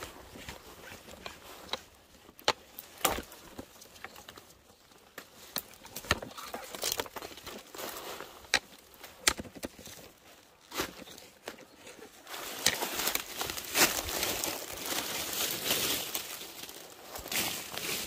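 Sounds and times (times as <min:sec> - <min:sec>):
footsteps crunching on twigs: 0:02.6 - 0:18.0.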